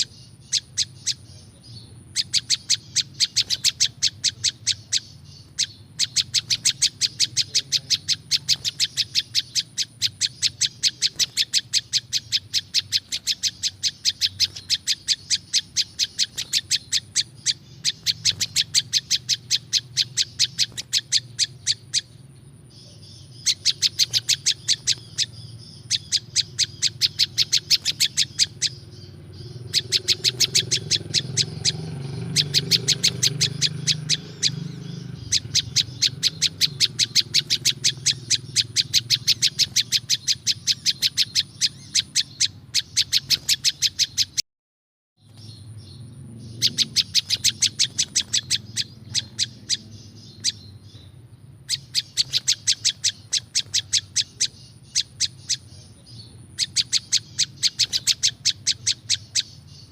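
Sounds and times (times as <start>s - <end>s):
bird calling high chipping notes: 0.0s - 44.4s, 45.2s - 59.9s.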